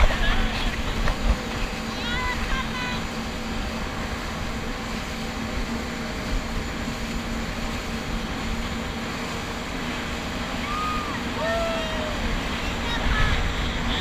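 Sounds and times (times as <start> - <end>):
jet ski engine drone: 0.0 - 14.0
water rushing under hull: 0.0 - 14.0.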